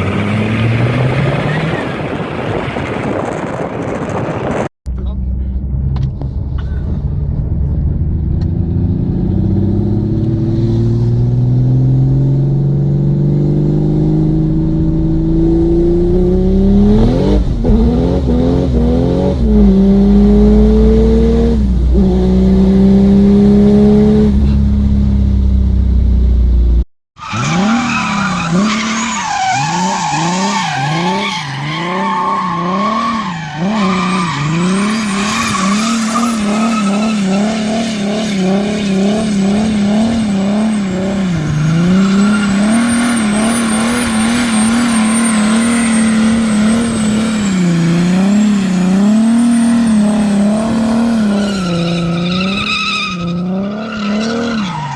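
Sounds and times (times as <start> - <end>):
diesel car engine accelerating: 0.0 - 54.9
diesel engine revving: 4.9 - 54.9.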